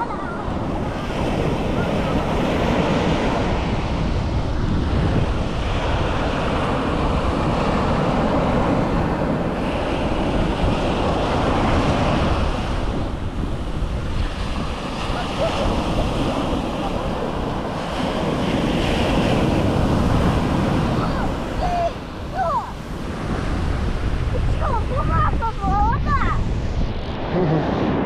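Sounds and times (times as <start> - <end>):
surf breaking on beach: 0.0 - 28.0
wind buffeting microphone: 0.0 - 28.0.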